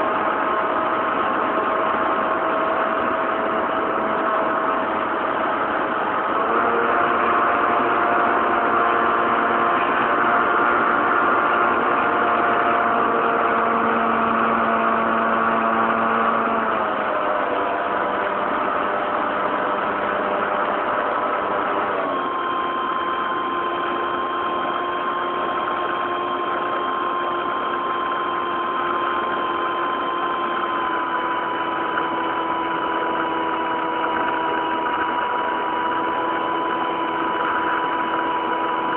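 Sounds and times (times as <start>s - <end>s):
model plane motor and propeller: 0.0s - 38.9s.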